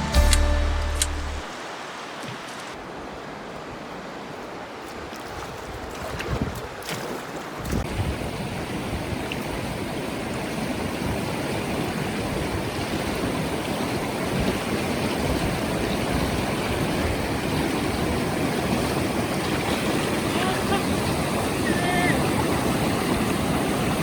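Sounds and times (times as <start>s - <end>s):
river water rushing: 0.0s - 5.6s, 6.9s - 24.0s.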